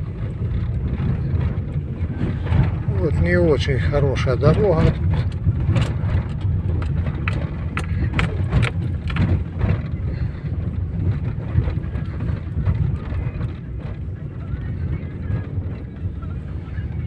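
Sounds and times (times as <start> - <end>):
suspension knocks: 0.0 - 16.4
tyre and engine rumble: 0.0 - 17.0.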